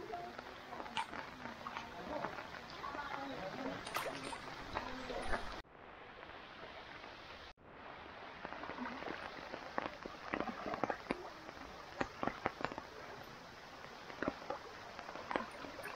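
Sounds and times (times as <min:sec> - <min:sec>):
water taps and splashes: 0:00.0 - 0:05.6, 0:08.5 - 0:15.9
rain on water: 0:00.0 - 0:15.9.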